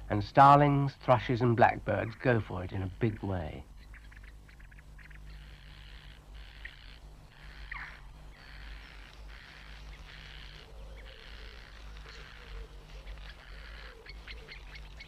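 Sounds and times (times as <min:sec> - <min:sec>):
birds calling with harsh hissing notes: 0:00.0 - 0:15.0
steady low hum: 0:00.0 - 0:15.0.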